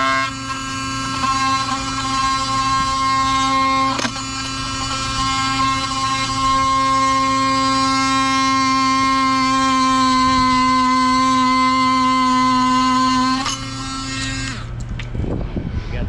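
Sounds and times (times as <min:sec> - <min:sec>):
power saw cutting branch: 0:00.0 - 0:15.2.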